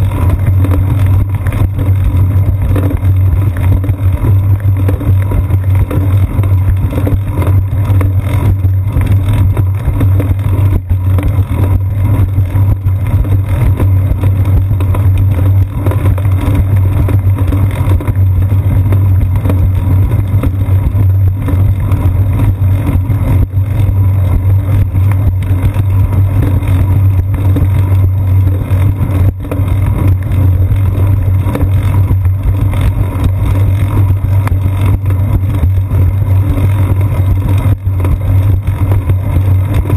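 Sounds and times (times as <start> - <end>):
bicycle road vibration: 0.0 - 39.9.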